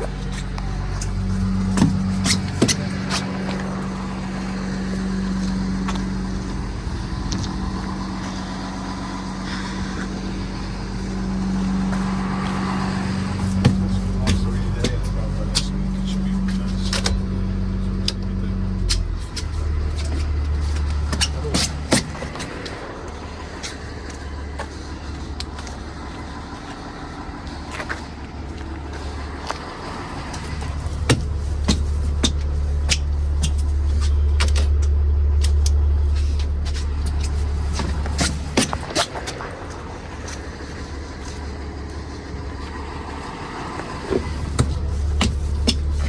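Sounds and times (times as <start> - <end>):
bus engine drone: 0.0 - 46.0.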